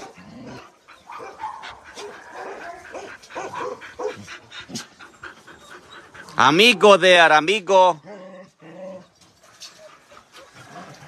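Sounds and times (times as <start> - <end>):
dogs whining and yipping: 0.0 - 7.3, 8.0 - 11.0.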